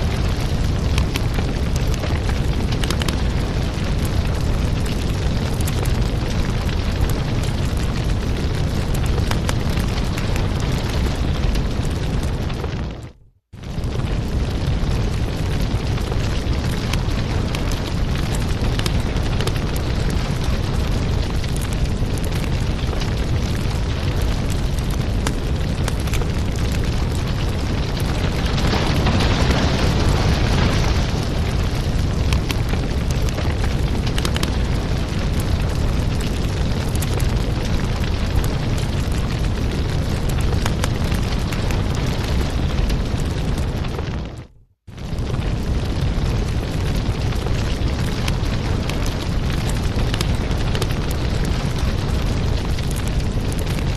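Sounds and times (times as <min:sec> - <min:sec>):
fire popping and snapping: 0:00.0 - 0:53.9
fire rumbling: 0:00.0 - 0:53.9.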